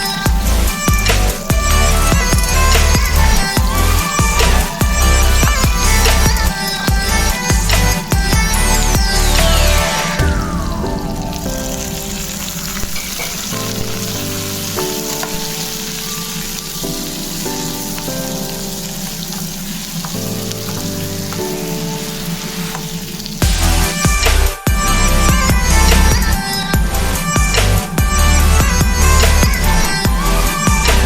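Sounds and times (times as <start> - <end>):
food sizzling in oil: 0.0 - 31.0
soft background music: 0.0 - 31.0.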